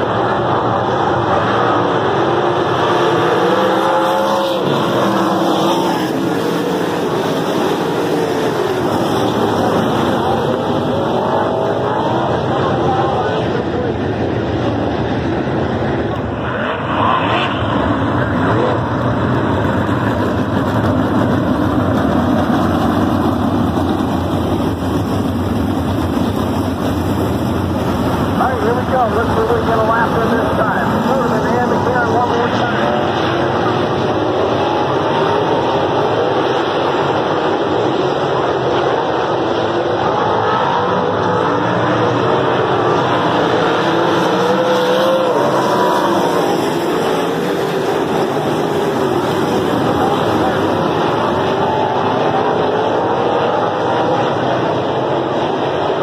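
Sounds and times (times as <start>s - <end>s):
many racing car engines: 0.0s - 56.0s.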